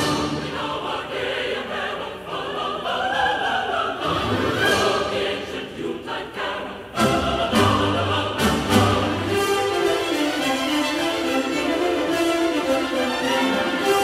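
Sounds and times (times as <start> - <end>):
operatic choir singing: 0.0 - 14.0.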